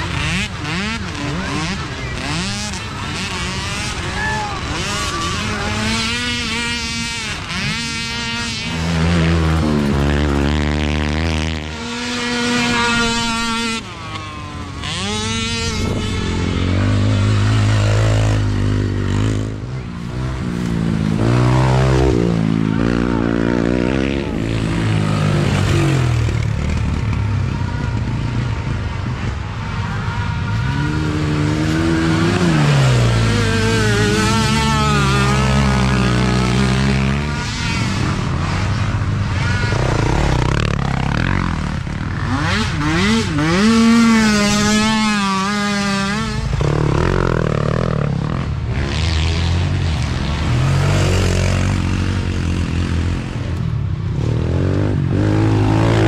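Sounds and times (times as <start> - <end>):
atv engine running: 0.0 - 56.0
dirt bike engine revving: 0.0 - 56.0.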